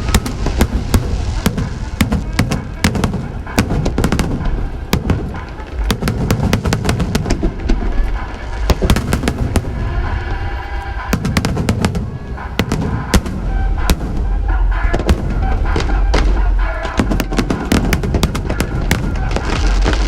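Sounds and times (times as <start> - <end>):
fireworks cracking and popping: 0.0 - 20.0
low rumble of bursting shells: 0.0 - 20.0
music playing: 0.0 - 20.0.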